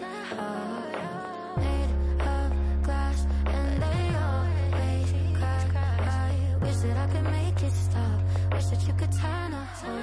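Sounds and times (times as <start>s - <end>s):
pop music with bass line: 0.0s - 10.0s.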